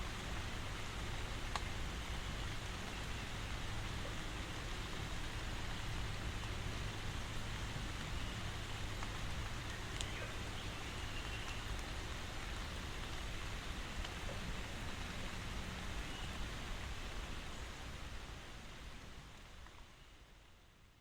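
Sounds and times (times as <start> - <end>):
raindrop ticks: 0.0 - 20.5
steady rain hiss: 0.0 - 21.0.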